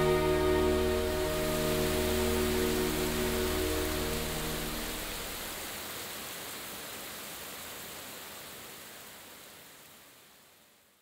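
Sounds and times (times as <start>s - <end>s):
artificial rain falling: 0.0s - 11.0s.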